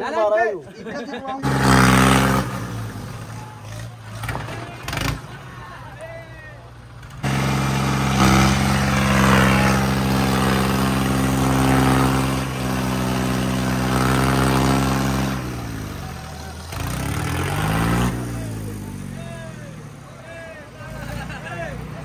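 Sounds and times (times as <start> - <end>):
tractor diesel engines straining: 0.0 - 22.0.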